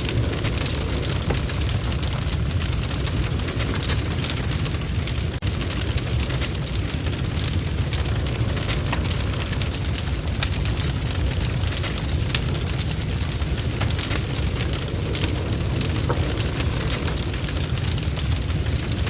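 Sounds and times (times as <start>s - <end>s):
bonfire snaps and pops: 0.0s - 19.0s
low rumble of flames: 0.0s - 19.0s.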